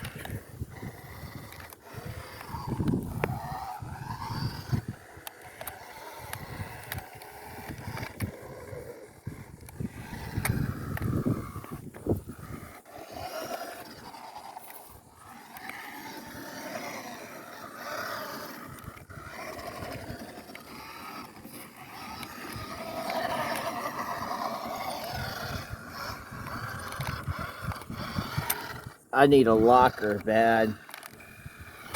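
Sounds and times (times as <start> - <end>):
toy car electric motor whining: 0.0 - 31.9
tyres scraping ground: 0.0 - 31.9.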